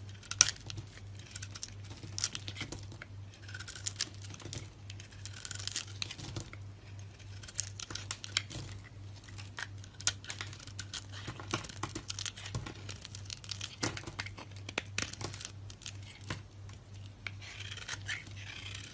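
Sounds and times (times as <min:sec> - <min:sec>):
dry soap crackling and crunching: 0:00.0 - 0:18.9.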